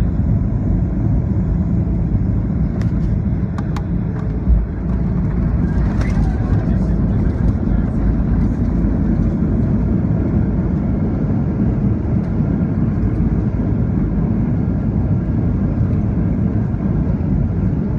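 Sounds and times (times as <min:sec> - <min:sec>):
plane engines and wheels rumbling: 0:00.0 - 0:17.9.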